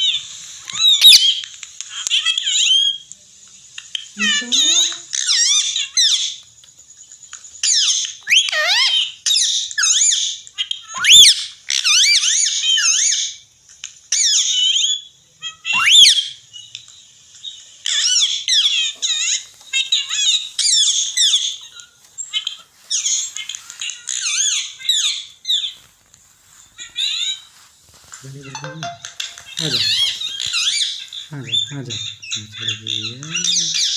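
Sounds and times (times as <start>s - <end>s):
parrot chattering: 0.0s - 3.0s, 4.2s - 6.4s, 7.6s - 13.3s, 14.2s - 16.4s, 17.8s - 33.9s.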